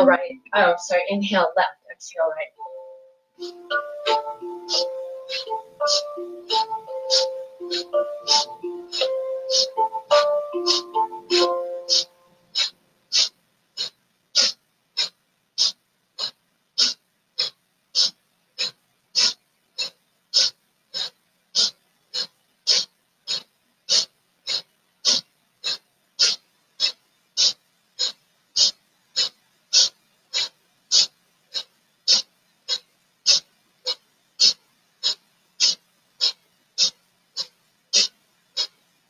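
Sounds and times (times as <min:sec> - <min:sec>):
woman breathing rhythmically: 0:03.4 - 0:39.0.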